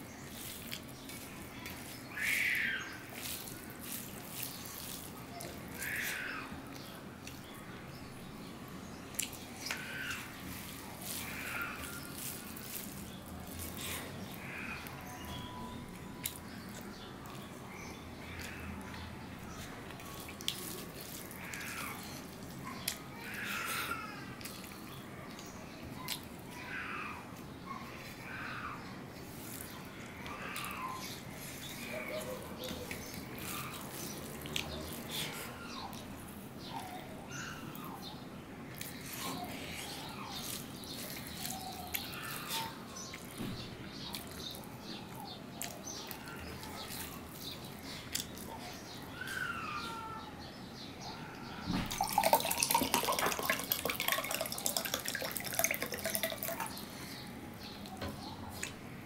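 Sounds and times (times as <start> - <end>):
wet food squelching: 0.0 - 50.0, 51.8 - 58.9.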